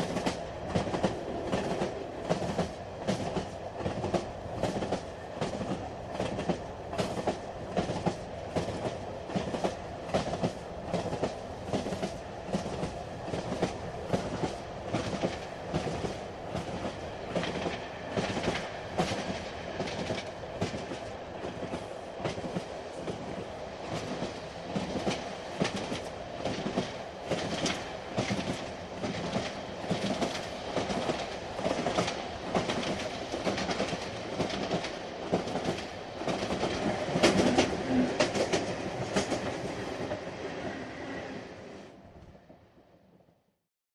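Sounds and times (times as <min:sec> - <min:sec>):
train rumble: 0:00.0 - 0:42.8.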